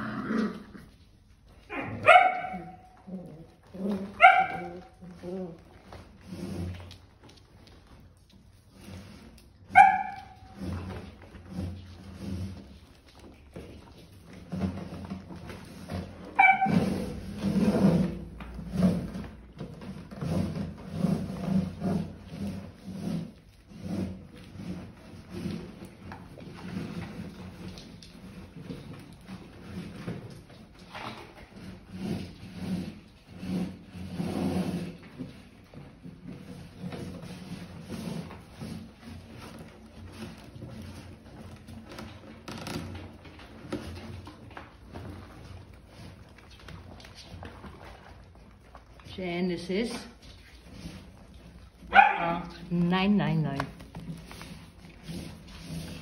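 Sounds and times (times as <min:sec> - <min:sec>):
puppies scuffing in cardboard box: 0:01.3 - 0:56.0.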